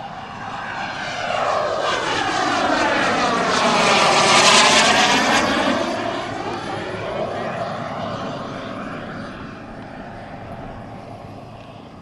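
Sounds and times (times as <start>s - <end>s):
model jet turbine flying past: 0.0s - 12.0s.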